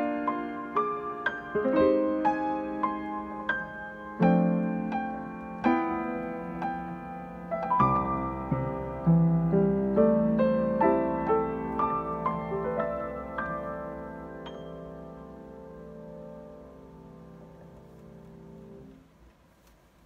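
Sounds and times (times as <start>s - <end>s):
slow grand piano piece: 0.0s - 20.0s.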